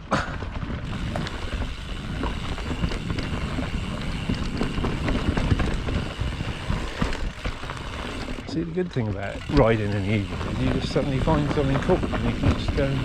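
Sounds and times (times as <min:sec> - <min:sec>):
bike clicks and rattles: 0:00.0 - 0:13.0
tyres rumbling on dirt: 0:00.0 - 0:13.0.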